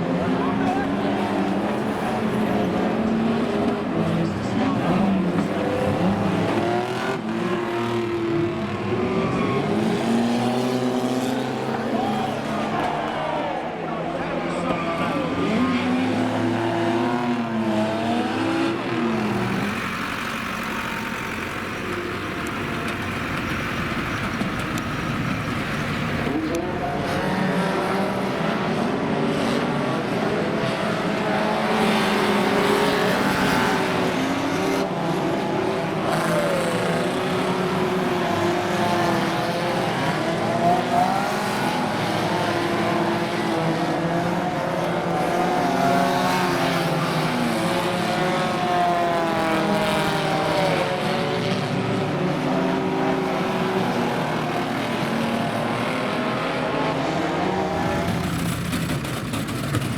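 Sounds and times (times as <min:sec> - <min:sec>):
racing car engines revving: 0:00.0 - 0:59.9.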